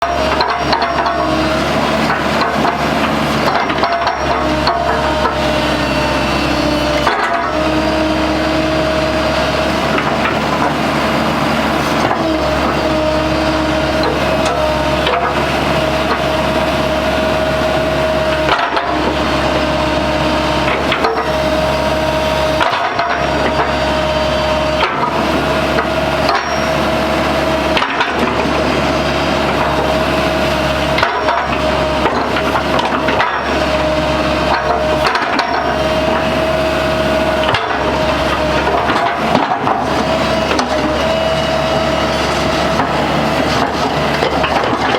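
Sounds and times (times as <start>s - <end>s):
excavator diesel hum: 0.0s - 44.9s
steady whine: 0.0s - 44.9s.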